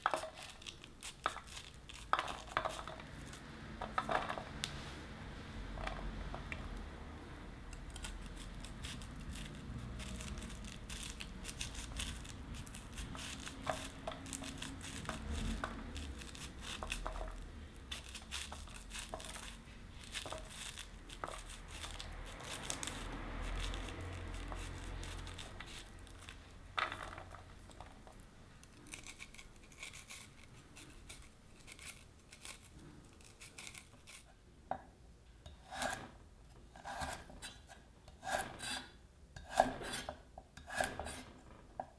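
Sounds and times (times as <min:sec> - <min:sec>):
knife slicing corn kernels: 0:00.0 - 0:04.3, 0:07.7 - 0:27.2, 0:28.6 - 0:34.3, 0:35.6 - 0:41.3.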